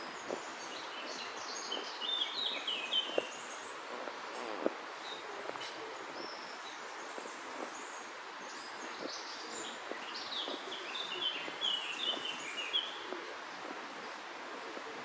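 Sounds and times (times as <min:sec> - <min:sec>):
outdoor background hiss: 0:00.0 - 0:15.0
wild birds chirping: 0:00.0 - 0:15.0.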